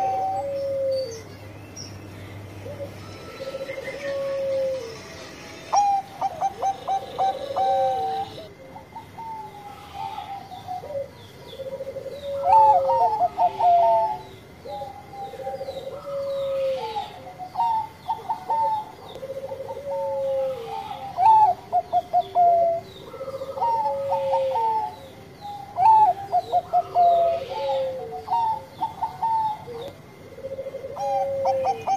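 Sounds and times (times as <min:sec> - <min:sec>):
dove cooing: 0:00.0 - 0:01.3, 0:02.5 - 0:31.9.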